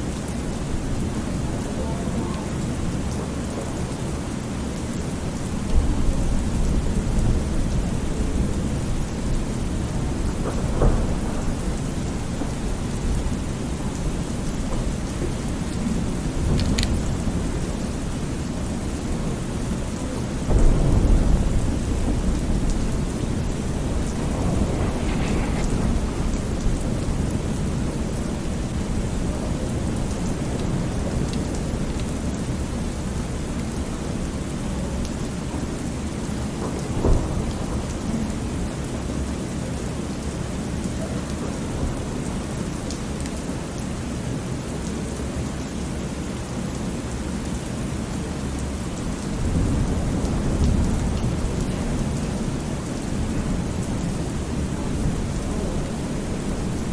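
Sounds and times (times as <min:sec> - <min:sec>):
steady rain: 0:00.0 - 0:56.9
low rumble of thunder: 0:00.1 - 0:39.4, 0:49.0 - 0:56.9.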